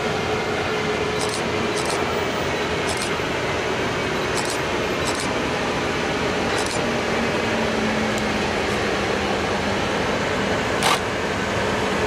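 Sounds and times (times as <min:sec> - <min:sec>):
train running noise and hum: 0:00.0 - 0:12.0.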